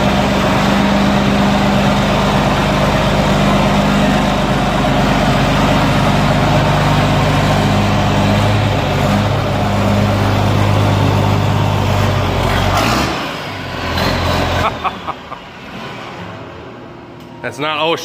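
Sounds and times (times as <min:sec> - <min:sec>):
tractor diesel engine running: 0:00.0 - 0:15.7.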